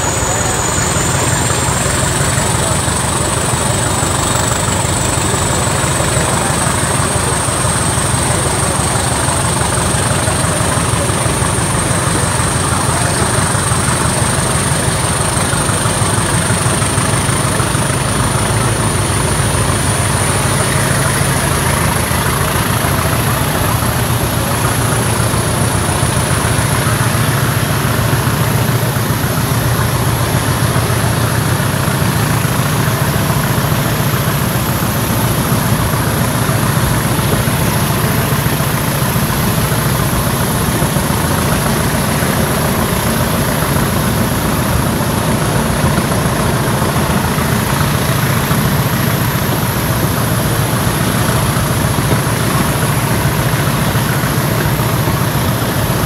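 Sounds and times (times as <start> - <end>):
diesel engine drone: 0.0 - 56.0
wheel and rail noise: 0.0 - 56.0.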